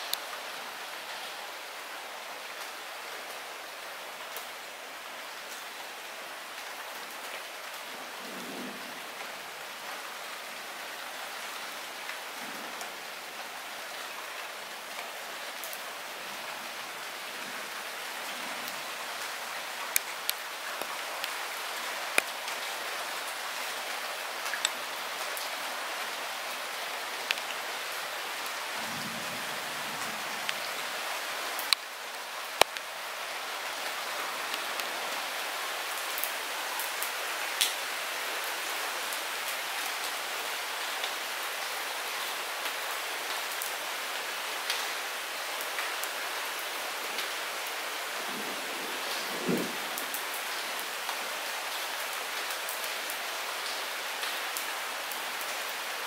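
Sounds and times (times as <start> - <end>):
raindrops ticking on a surface: 0.0 - 4.6, 6.4 - 55.9
light rain falling: 0.0 - 56.0.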